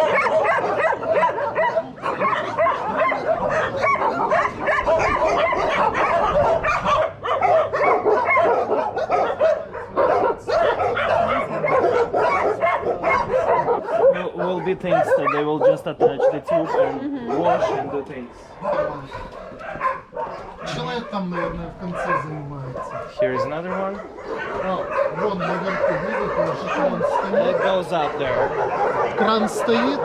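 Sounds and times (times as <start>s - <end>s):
many dogs barking and whining: 0.0s - 30.0s.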